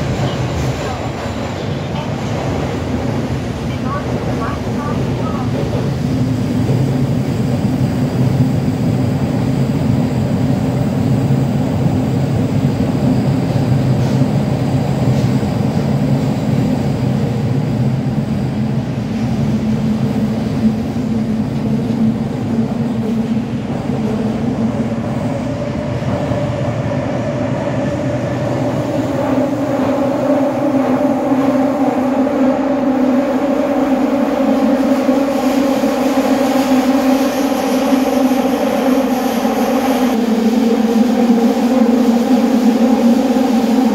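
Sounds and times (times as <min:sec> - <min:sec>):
subway car rumble and hum: 0:00.0 - 0:43.9.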